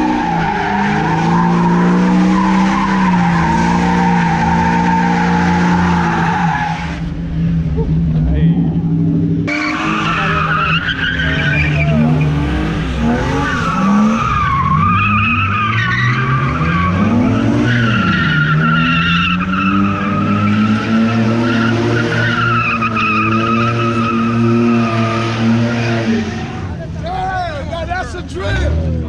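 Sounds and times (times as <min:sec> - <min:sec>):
car engine revving: 0:00.0 - 0:27.1
tires squealing: 0:00.0 - 0:27.2.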